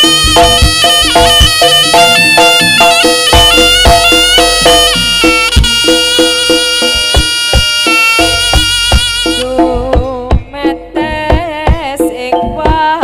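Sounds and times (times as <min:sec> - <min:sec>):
drum strokes: 0:00.0 - 0:13.0
gamelan percussion: 0:00.0 - 0:13.0
shawm melody: 0:00.0 - 0:13.0.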